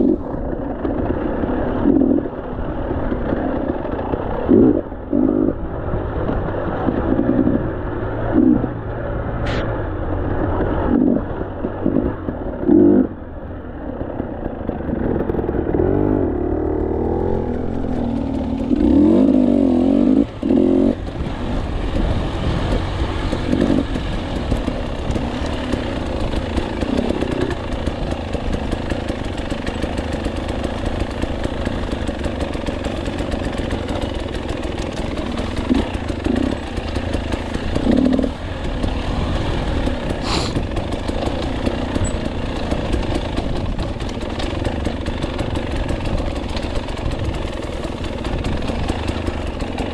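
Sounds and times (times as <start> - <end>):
motorcycle clatter: 0.0 - 49.9
motorcycle engine revving: 0.0 - 49.9.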